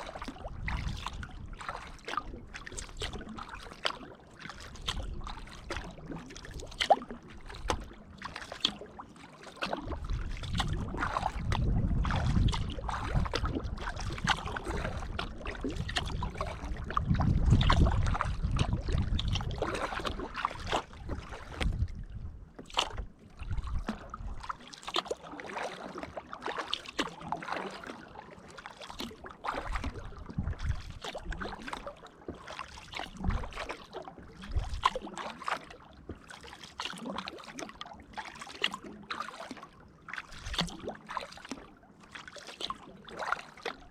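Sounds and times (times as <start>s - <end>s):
kayak paddle splashing in water: 0.0s - 43.9s.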